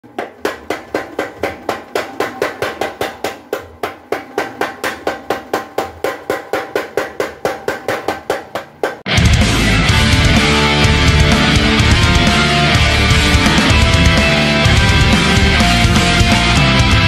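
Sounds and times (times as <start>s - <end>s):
power hammer pounding steel: 0.0s - 17.0s.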